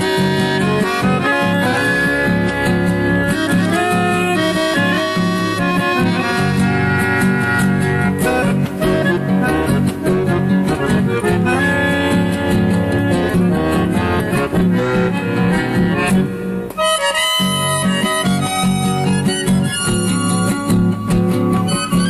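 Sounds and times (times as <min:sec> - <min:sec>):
accordion melody: 0:00.0 - 0:22.0
guitar accompaniment: 0:00.0 - 0:22.0.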